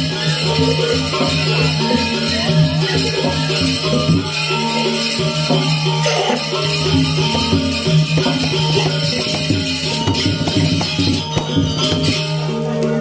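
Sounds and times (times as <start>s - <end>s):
gamelan playing: 0.0s - 13.0s.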